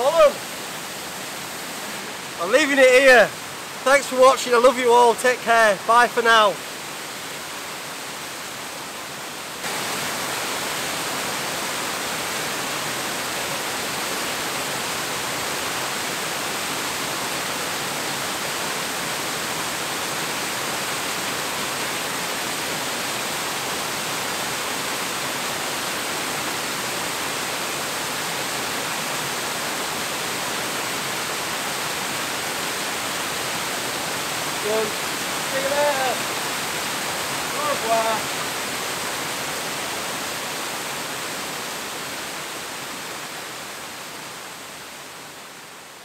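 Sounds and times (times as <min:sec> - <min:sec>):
waterfall rushing into pool: 0:00.0 - 0:46.0.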